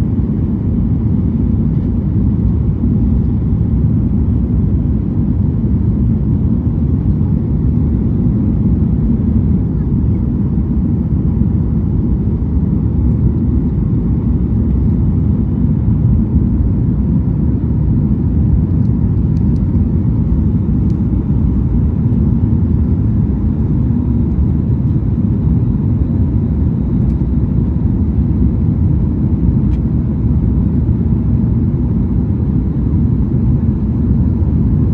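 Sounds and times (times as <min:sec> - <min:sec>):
airliner engines rumbling: 0:00.0 - 0:34.9.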